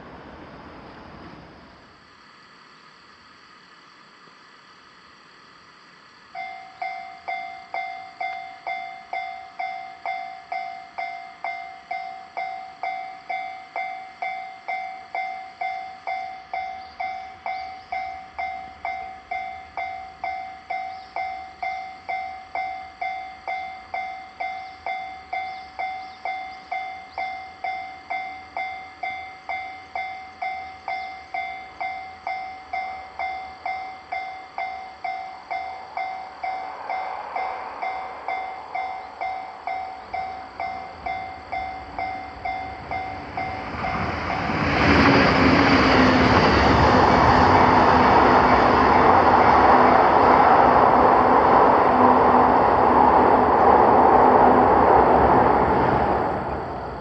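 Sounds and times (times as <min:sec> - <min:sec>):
railroad crossing warning bell: 0:06.2 - 0:57.0.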